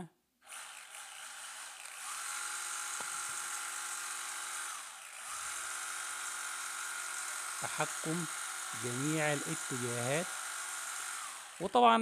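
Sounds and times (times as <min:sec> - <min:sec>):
rc car motor whining: 0:00.4 - 0:12.0.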